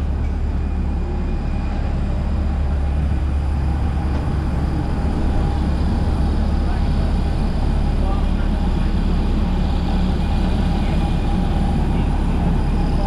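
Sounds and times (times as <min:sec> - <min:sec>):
jet aircraft and ground equipment rumble: 0:00.0 - 0:13.0.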